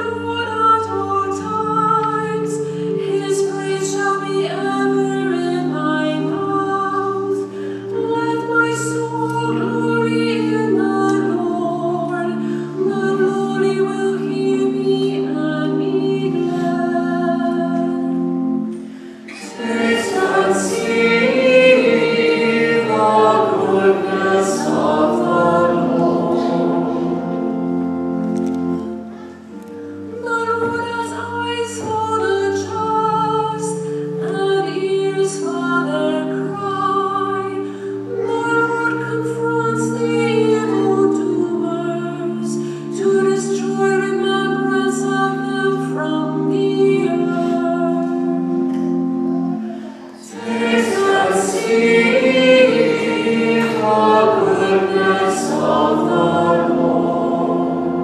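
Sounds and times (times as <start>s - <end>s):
organ chords: 0.0s - 58.0s
person singing psalm: 0.0s - 58.0s.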